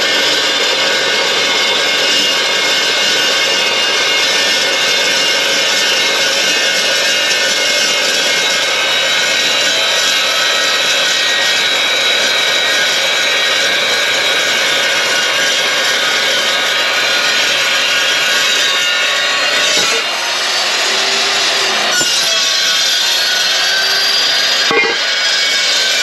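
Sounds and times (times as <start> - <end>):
chop saw cutting steel: 0.0 - 26.0.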